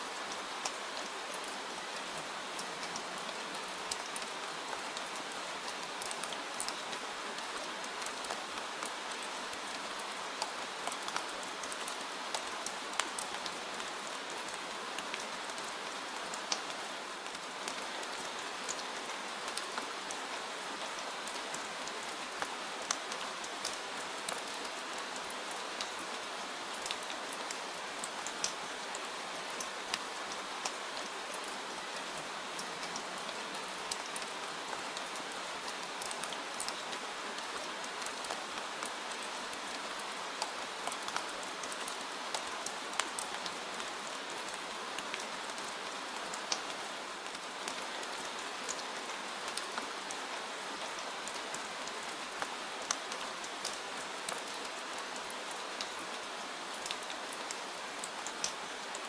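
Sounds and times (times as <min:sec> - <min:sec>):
gentle steady rain: 0:00.0 - 0:59.0.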